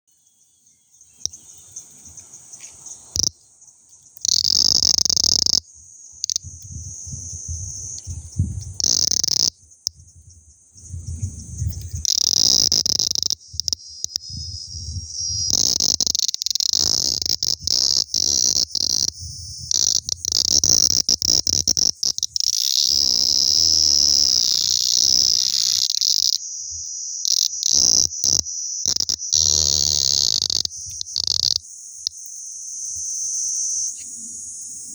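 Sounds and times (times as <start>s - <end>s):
cicada harsh buzzing: 0.2s - 34.9s.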